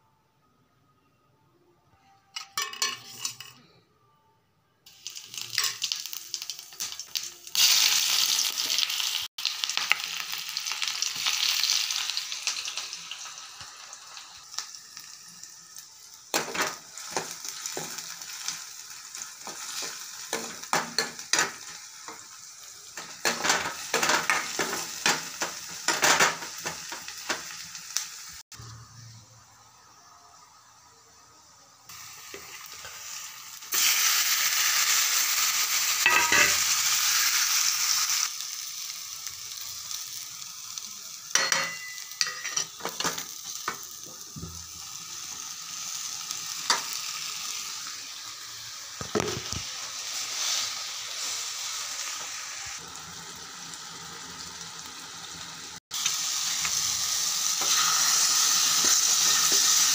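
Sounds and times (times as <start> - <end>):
onions sizzling in hot oil: 4.9 - 28.8, 29.5 - 59.9.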